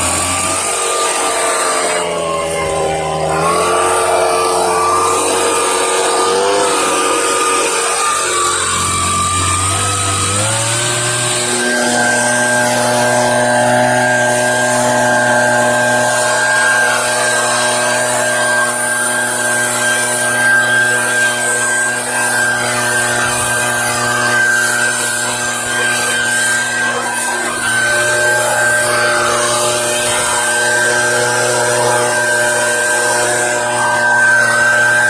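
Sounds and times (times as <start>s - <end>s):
leaf blower running: 0.0s - 35.0s.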